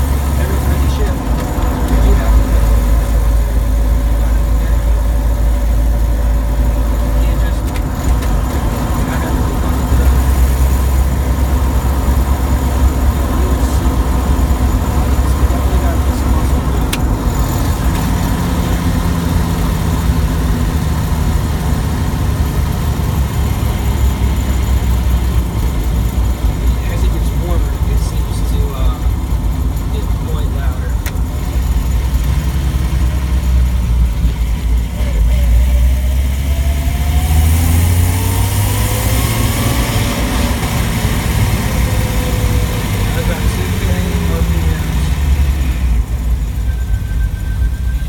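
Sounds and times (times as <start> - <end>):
car engine running: 0.0 - 48.0
thin drivetrain whine: 0.0 - 48.0.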